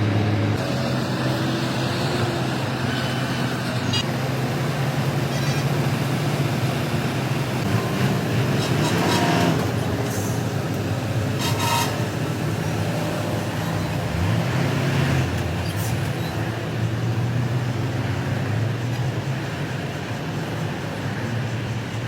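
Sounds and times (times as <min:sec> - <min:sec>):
engine running steadily: 0:00.0 - 0:22.0
traffic noise: 0:00.0 - 0:22.0.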